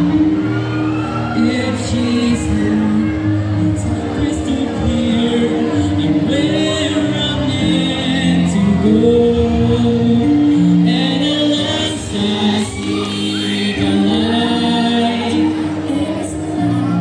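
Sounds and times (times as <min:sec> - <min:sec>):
accompanying music: 0:00.0 - 0:17.0
person singing into microphone: 0:01.2 - 0:17.0
second voice singing: 0:01.4 - 0:17.0.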